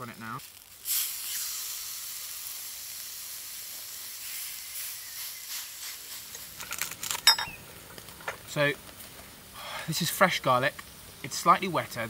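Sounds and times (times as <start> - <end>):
steak sizzling in a skillet: 0.2 - 12.0.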